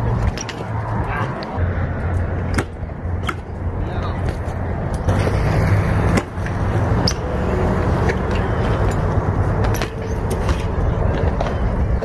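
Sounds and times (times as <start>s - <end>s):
bike tyres rolling on concrete: 0.0s - 12.0s.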